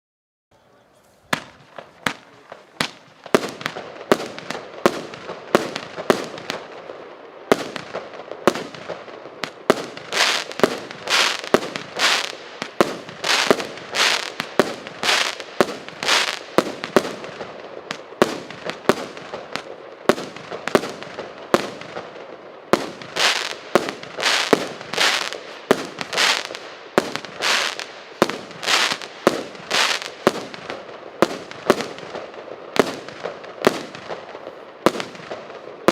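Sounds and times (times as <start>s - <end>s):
firework crackling bursts: 1.1s - 35.9s
firework launches: 1.2s - 6.8s, 7.5s - 35.9s.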